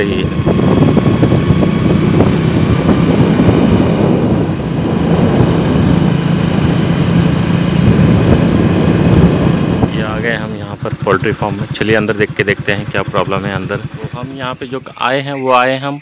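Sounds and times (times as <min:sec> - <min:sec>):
road noise: 0:00.0 - 0:16.0
vehicle engine hum: 0:00.0 - 0:16.0
wind rushing over microphone: 0:00.0 - 0:16.0.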